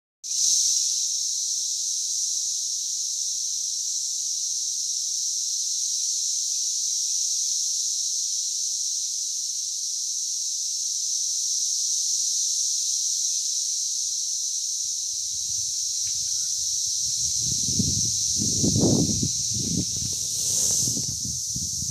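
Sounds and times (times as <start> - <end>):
cicadas buzzing drone: 0.3 - 21.9.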